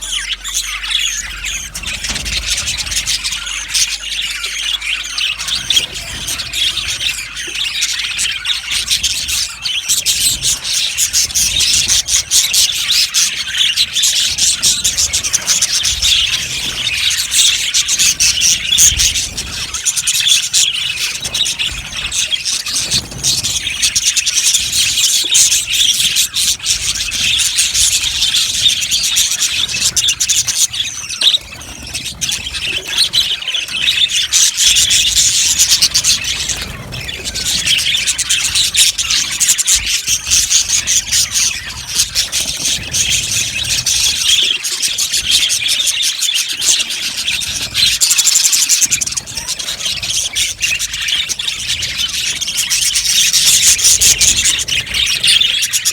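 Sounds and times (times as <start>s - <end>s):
budgerigars chattering and twittering: 0.0s - 55.9s.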